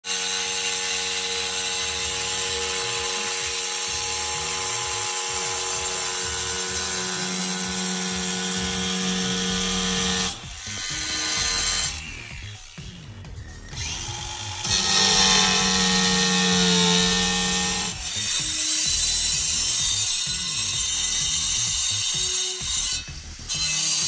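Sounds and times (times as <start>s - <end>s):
blade grinding stone: 0.0s - 12.8s, 13.5s - 24.0s
angle grinder motor whine: 0.0s - 24.0s.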